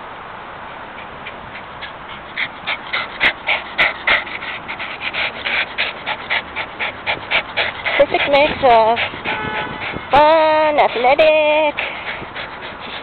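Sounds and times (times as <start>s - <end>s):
steady outdoor hiss: 0.0s - 13.0s
dog panting: 0.8s - 13.0s.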